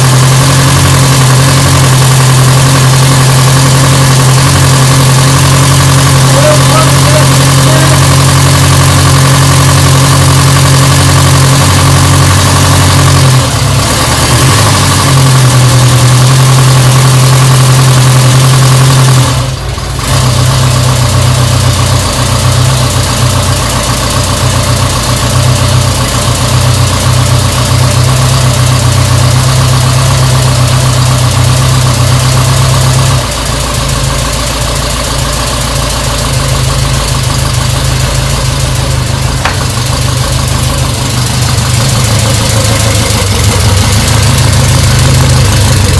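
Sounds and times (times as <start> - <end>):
motorcycle engine idling: 0.0 - 14.1, 19.3 - 45.9.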